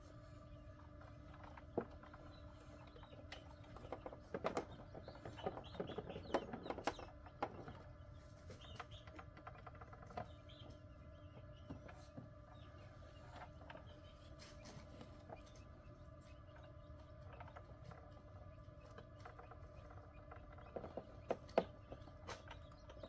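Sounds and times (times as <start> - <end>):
chicks peeping: 0.0 - 23.0
incubator hum: 0.0 - 23.0.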